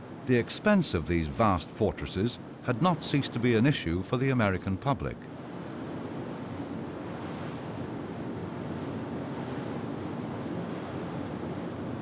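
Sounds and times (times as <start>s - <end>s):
sea: 0.0s - 12.0s
wind: 0.0s - 12.0s.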